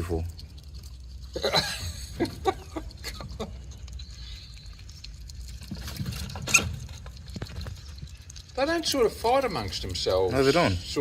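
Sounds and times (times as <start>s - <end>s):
ferrets scrabbling and scratching: 0.0s - 11.0s.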